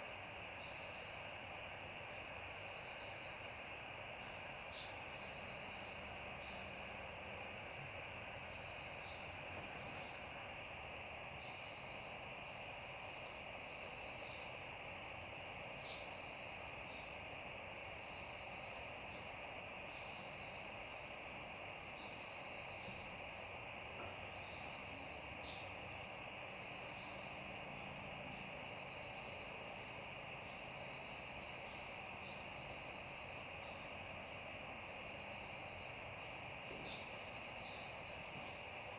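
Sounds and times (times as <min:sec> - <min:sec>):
crickets trilling: 0:00.0 - 0:38.9
insects chirping: 0:00.0 - 0:38.9.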